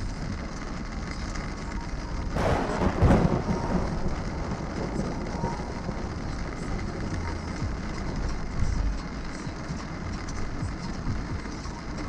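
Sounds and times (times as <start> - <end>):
rain and road noise in car: 0.0 - 12.0
thunderclap rumbling: 0.0 - 12.0.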